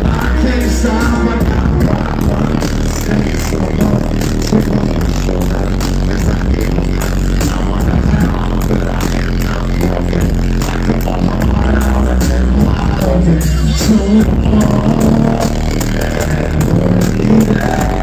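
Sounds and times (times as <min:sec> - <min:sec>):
bass-heavy beat: 0:00.0 - 0:18.0
rapping through a pa: 0:00.0 - 0:18.0.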